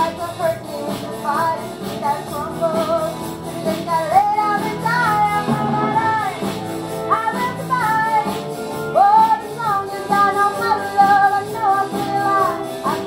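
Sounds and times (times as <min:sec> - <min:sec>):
live band with drums: 0:00.0 - 0:13.0
woman singing: 0:00.0 - 0:13.0.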